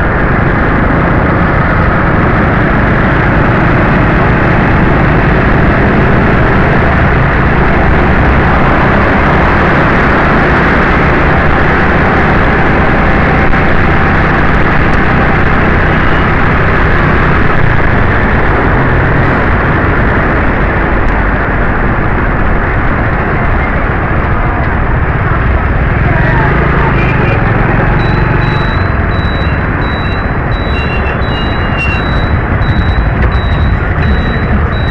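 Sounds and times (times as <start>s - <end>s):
city traffic rumble and hiss: 0.0s - 34.9s.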